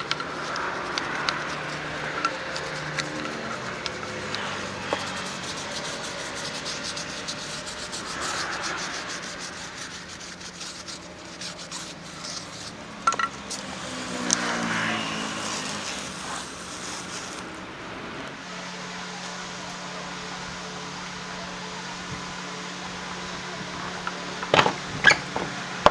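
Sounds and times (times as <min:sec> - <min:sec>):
rubbing and scraping on wheel: 0:00.0 - 0:20.3, 0:21.2 - 0:25.9.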